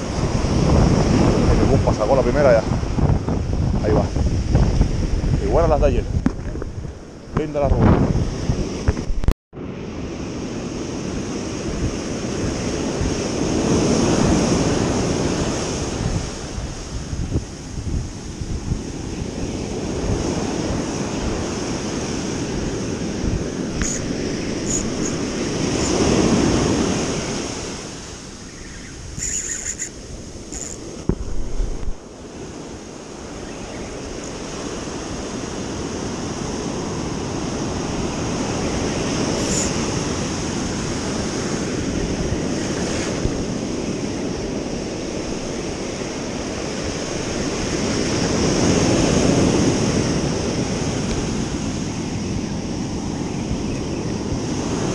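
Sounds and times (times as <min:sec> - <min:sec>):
ocean surf breaking on beach: 0:00.0 - 0:54.9
wind buffeting microphone: 0:00.0 - 0:54.9.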